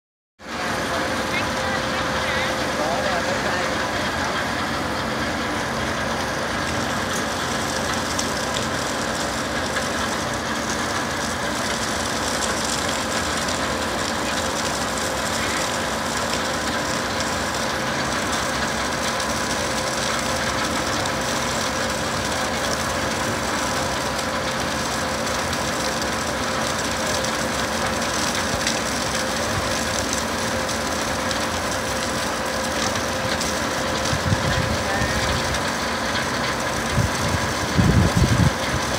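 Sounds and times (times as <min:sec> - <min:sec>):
conveyor machine hum: 0:00.4 - 0:38.9
drive whine: 0:00.4 - 0:38.9.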